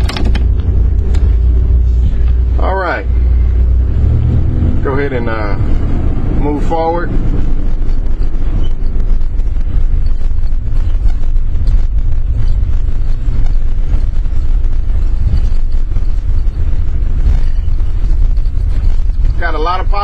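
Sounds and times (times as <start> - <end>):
engine and road noise rumble: 0.0 - 20.0.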